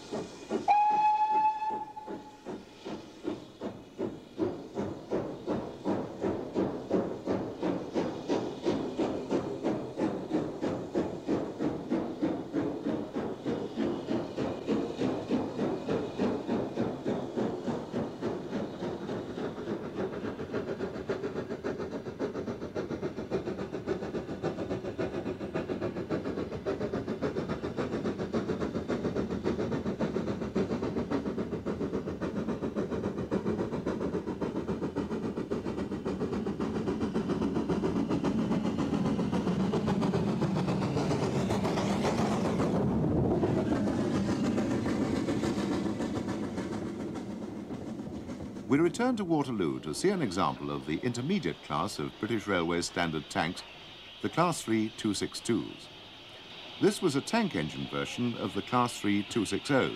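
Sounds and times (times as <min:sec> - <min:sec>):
steam locomotive exhaust beats: 0:00.0 - 0:59.9.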